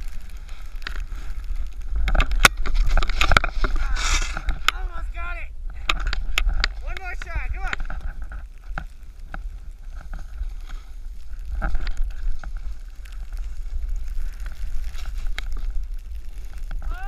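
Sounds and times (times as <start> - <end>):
snowboard scraping on snow: 0.0 - 4.6, 6.2 - 17.0
wind rumble: 0.0 - 17.0.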